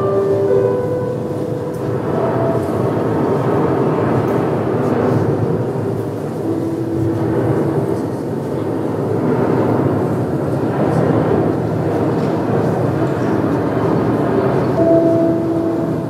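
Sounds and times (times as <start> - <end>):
strong wind rushing: 0.0 - 16.0.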